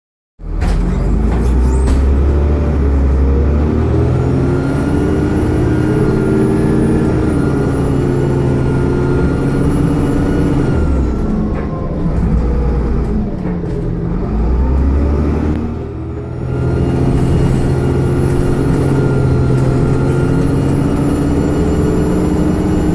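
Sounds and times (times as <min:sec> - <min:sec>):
bus engine: 0:00.4 - 0:22.9
turbocharger whine: 0:00.9 - 0:22.9.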